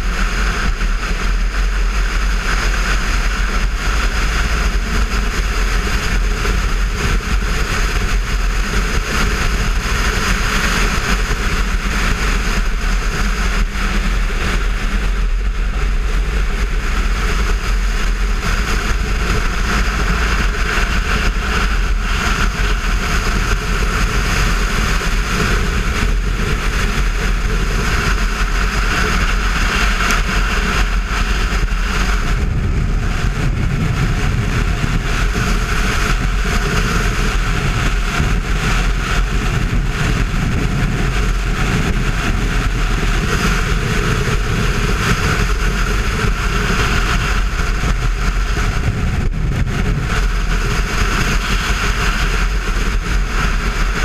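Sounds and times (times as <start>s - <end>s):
motorcycle engine rumble: 0.0s - 54.0s
wind rushing over microphone: 0.0s - 54.0s.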